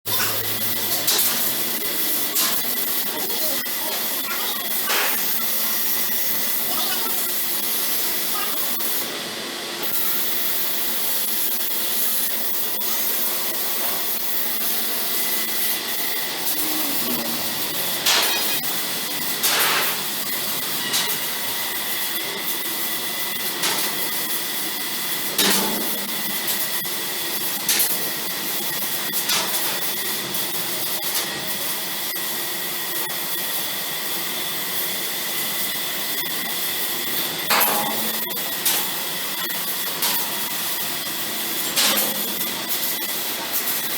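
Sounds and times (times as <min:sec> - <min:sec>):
laser cutting machine hissing: 0:00.1 - 0:43.9.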